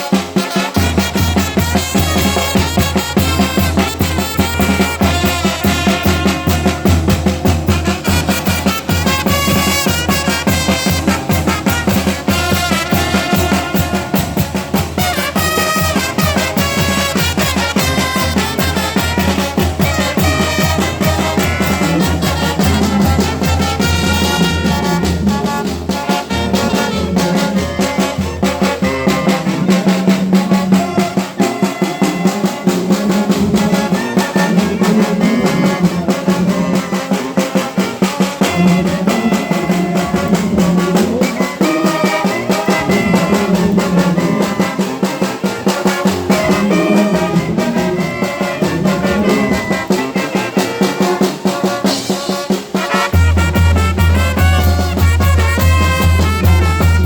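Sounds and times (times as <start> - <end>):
drums beating: 0.0 - 57.0
trumpets and trombones playing tune: 0.0 - 57.0.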